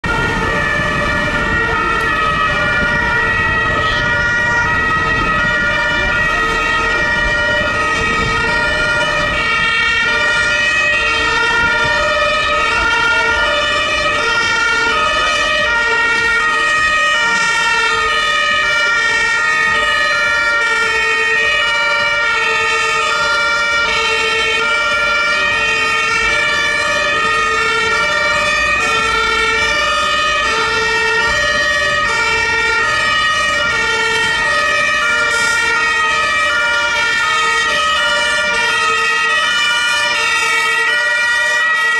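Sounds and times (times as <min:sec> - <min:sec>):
low traffic rumble: 0:00.0 - 0:41.9
two-tone sirens: 0:00.0 - 0:41.9.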